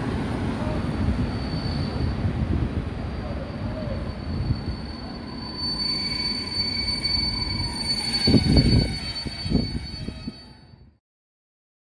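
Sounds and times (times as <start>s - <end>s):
train rumble: 0.0s - 11.0s
train wheel squeal: 0.6s - 11.0s.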